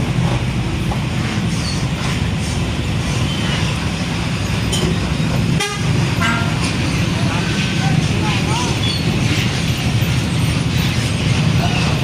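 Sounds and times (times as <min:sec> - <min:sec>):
truck engines rumbling: 0:00.0 - 0:12.0.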